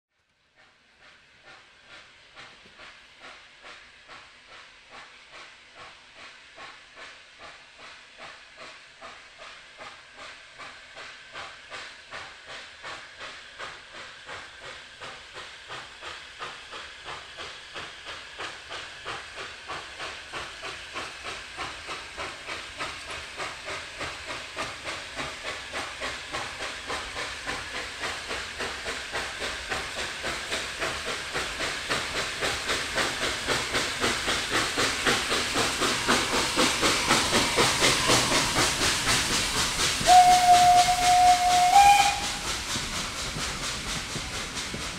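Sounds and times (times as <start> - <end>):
steam locomotive chuffing: 0.4 - 44.9.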